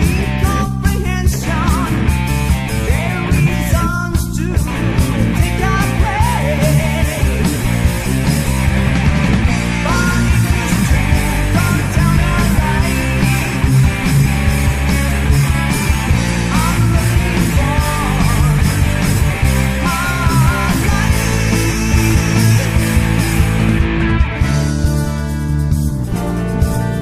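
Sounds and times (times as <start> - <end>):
heavy metal band playing: 0.0 - 27.0
lead guitar melody with bends: 1.4 - 3.9, 4.5 - 27.0.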